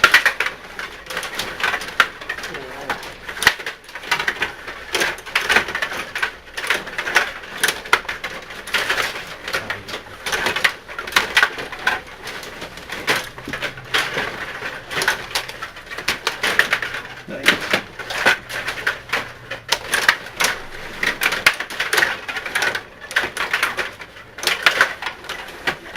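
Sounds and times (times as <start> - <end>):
rod hockey game clattering: 0.0 - 25.9.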